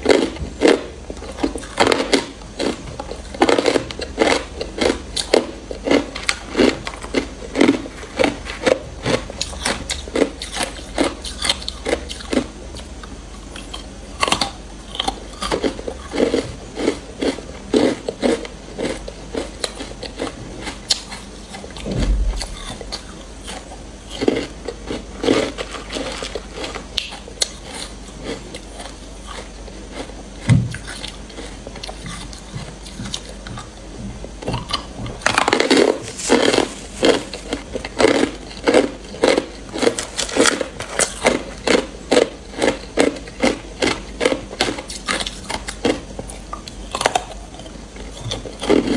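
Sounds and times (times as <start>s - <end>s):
ice being chewed: 0.0s - 21.8s, 22.6s - 33.8s, 34.5s - 48.9s.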